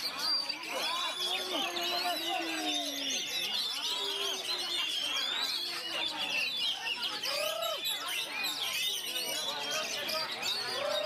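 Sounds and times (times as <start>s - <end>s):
caged birds singing: 0.0s - 11.0s.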